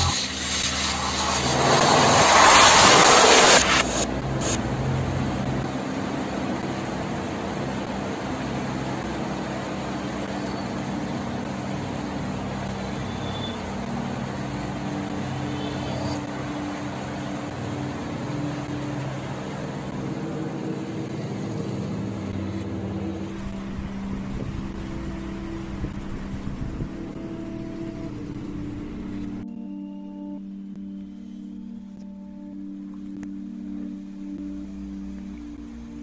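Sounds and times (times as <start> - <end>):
electric fan running: 0.0 - 29.4.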